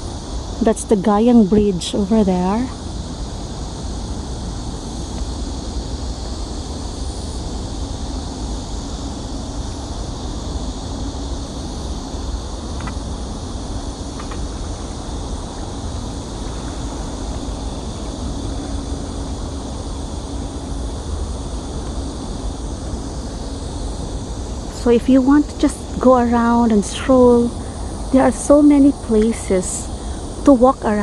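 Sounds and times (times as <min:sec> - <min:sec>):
faint steady hum: 0:00.0 - 0:31.0
low rumble and hiss: 0:00.0 - 0:31.0.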